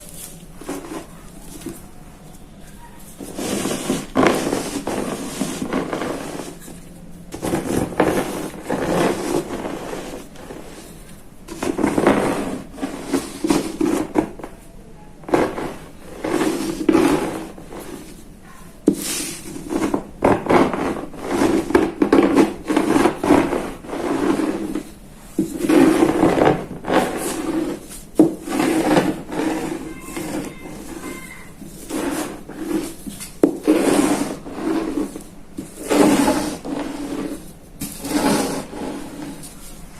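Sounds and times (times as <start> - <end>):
chalk crunching under rolling pin: 0.0 - 39.9.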